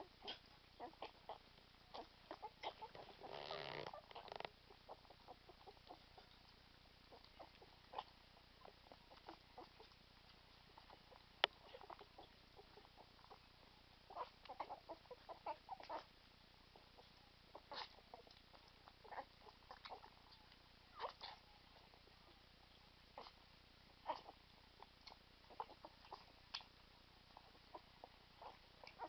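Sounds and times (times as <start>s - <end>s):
puppies squeaking and snuffling: 0.0s - 29.0s.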